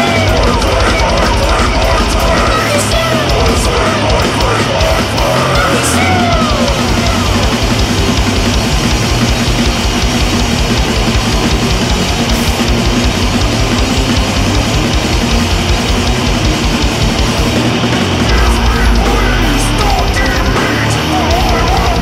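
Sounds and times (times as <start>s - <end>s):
goregrind metal song: 0.0s - 22.0s.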